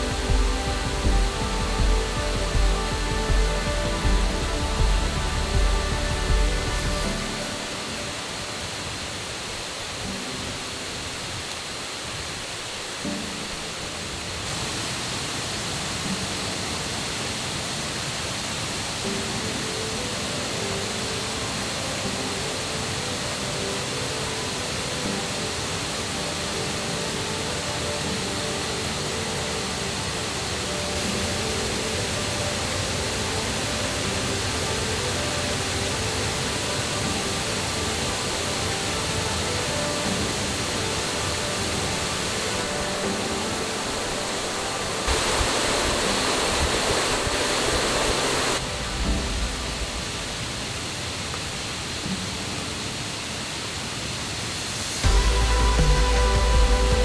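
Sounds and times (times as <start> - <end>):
river and waterfall rushing: 0.0 - 57.0.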